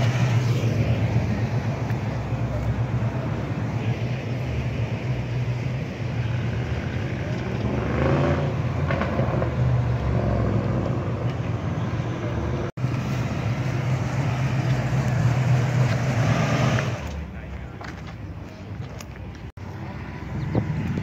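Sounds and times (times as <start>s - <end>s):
cars driving slowly past: 0.0s - 21.0s.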